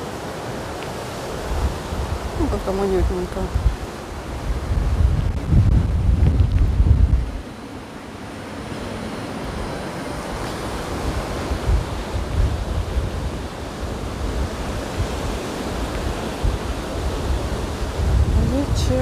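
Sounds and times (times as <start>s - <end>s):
waves breaking: 0.0s - 19.0s
wind rumbling on microphone: 0.0s - 19.0s.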